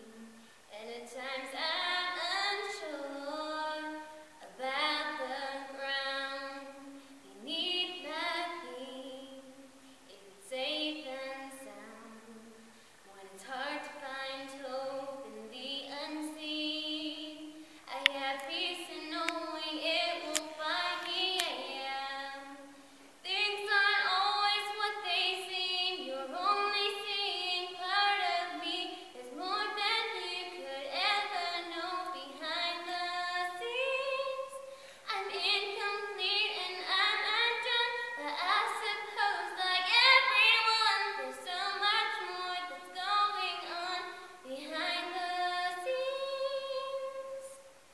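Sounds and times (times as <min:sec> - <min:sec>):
girl singing a cappella: 0:00.0 - 0:47.9.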